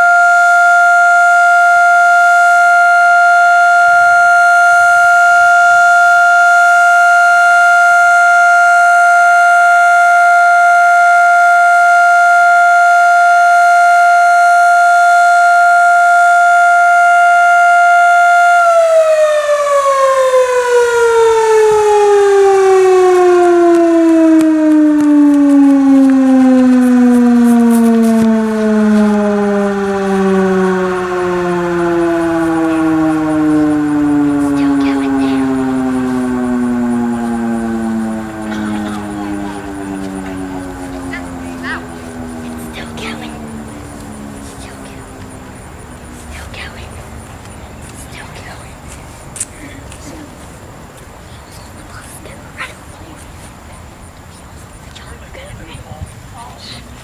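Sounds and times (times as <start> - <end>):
siren winding down: 0.0 - 48.9.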